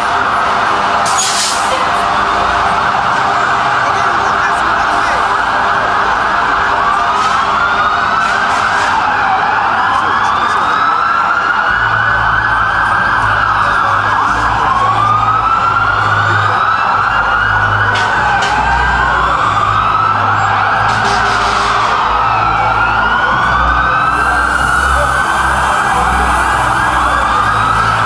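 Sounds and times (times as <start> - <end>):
emergency sirens wailing: 0.0 - 28.0.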